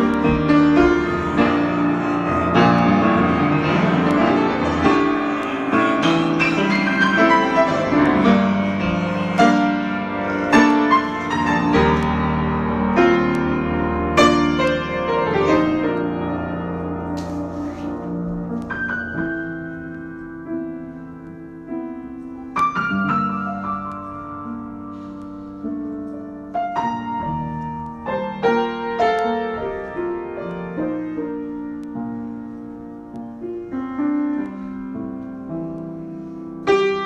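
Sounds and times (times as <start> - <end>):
solo piano improvisation: 0.0 - 37.0.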